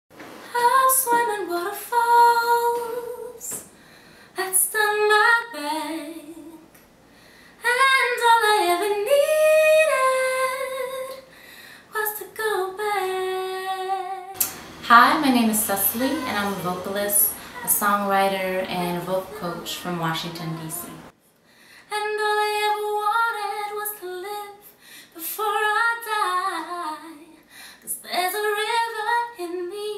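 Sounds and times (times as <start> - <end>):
woman singing: 0.5 - 3.7, 4.4 - 6.6, 7.6 - 11.3, 11.9 - 21.1, 21.9 - 29.9.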